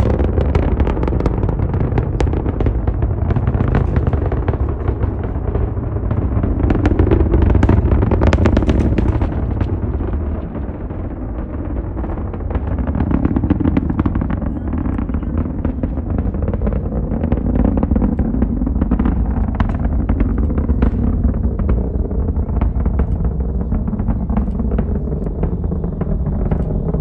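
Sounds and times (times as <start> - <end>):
rocket engines rumbling and crackling: 0.0 - 27.0.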